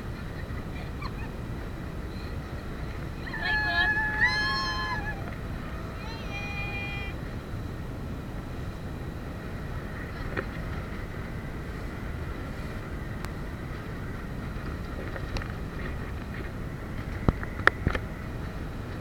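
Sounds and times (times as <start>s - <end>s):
boat running noise: 0.0s - 19.0s
wind buffeting microphone: 0.0s - 19.0s.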